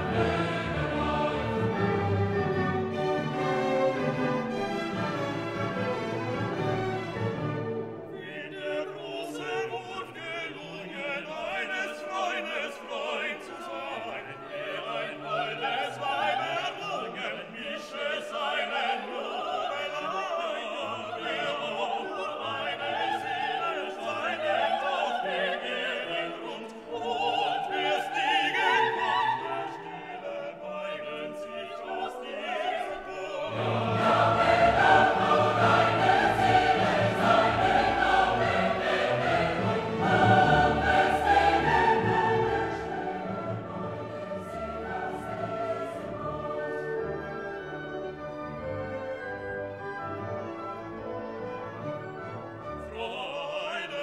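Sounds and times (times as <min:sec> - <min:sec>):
operatic singing with orchestra: 0:00.0 - 0:54.0.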